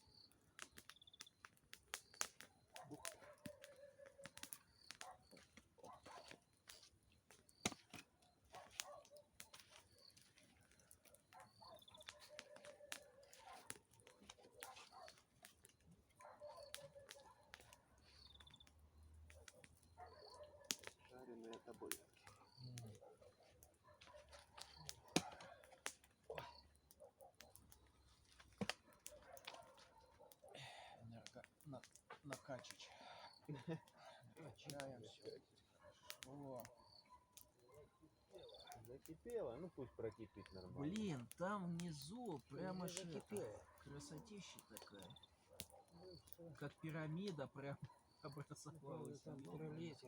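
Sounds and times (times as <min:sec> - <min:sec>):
campfire crackling and popping: 0:00.0 - 0:50.0.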